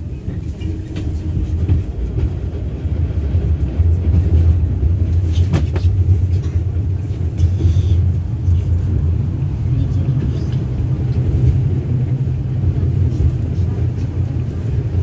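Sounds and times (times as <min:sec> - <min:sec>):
tram rumbling on tracks: 0:00.0 - 0:15.0.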